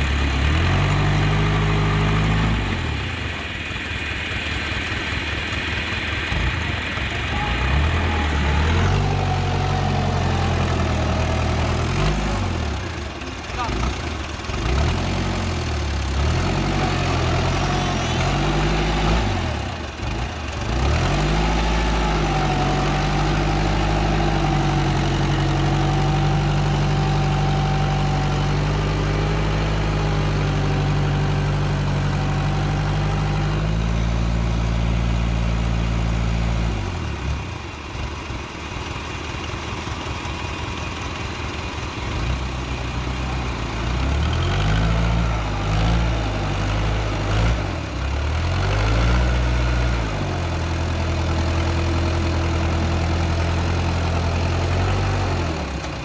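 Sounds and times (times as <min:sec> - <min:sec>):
tractor engine revving: 0:00.0 - 0:39.2, 0:39.8 - 0:56.0.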